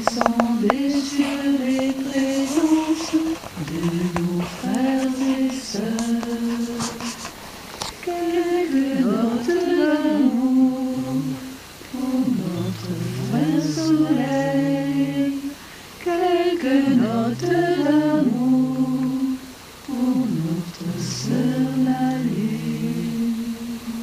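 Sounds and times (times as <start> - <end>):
group singing unaccompanied: 0.0 - 24.0.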